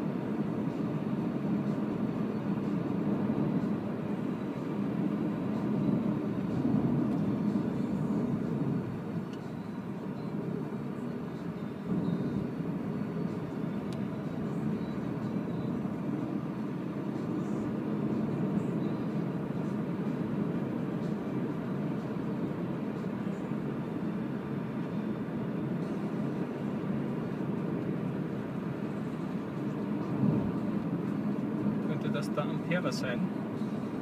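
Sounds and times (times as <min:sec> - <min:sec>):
road and tyre noise in car: 0:00.0 - 0:34.0.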